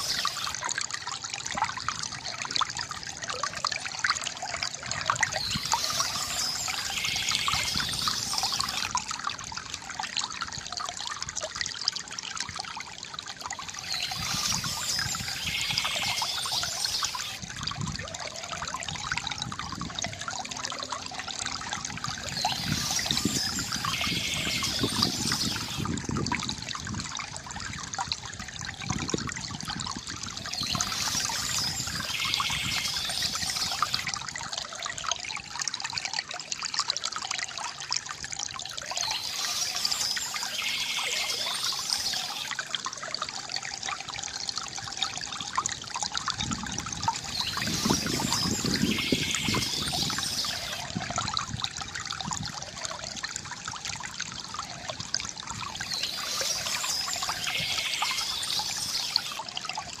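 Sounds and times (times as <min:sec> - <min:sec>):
fountain water trickling: 0:00.0 - 1:00.0
water gushing: 0:00.0 - 1:00.0.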